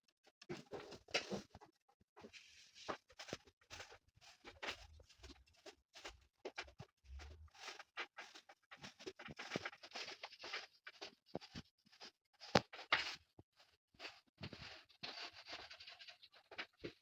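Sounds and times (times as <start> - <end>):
household things being handled: 0.3 - 17.0.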